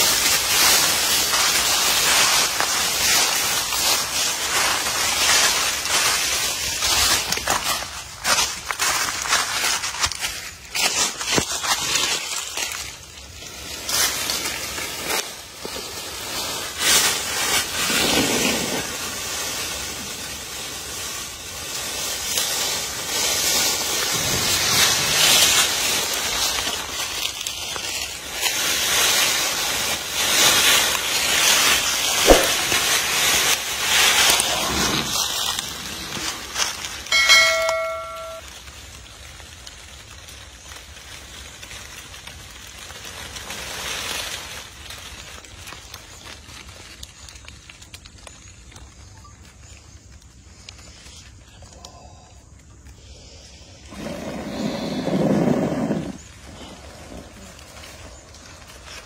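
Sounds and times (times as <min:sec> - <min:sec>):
dry leaves crackling and rustling: 0:00.0 - 0:59.0.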